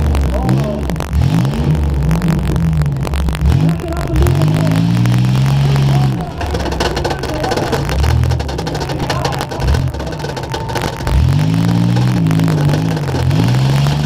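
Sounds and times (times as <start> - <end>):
car engine revving: 0.0 - 14.0
crackling microphone static: 0.0 - 14.0.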